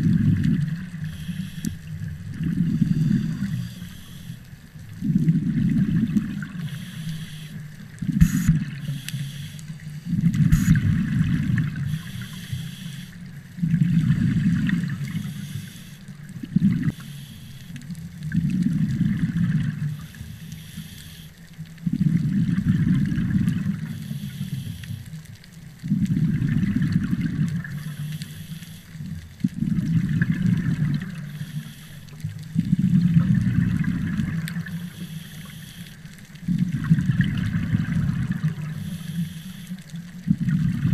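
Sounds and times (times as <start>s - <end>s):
underwater exhaled air bubbling: 0.0s - 40.9s.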